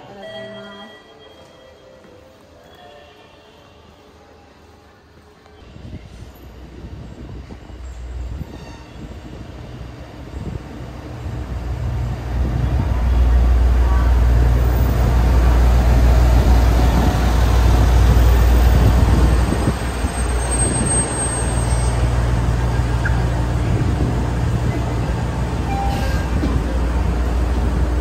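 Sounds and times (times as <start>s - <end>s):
train rumbling on rails: 1.0s - 28.0s.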